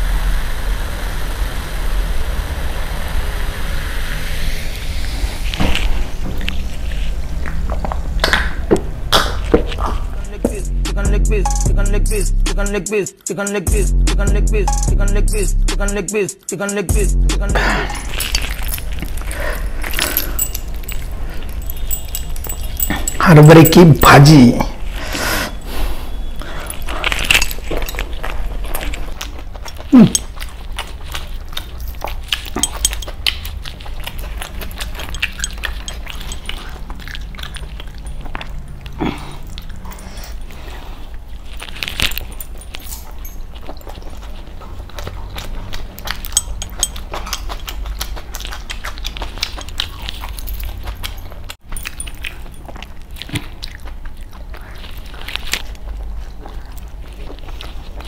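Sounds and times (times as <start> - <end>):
man chewing and lip-smacking: 6.4 - 58.0.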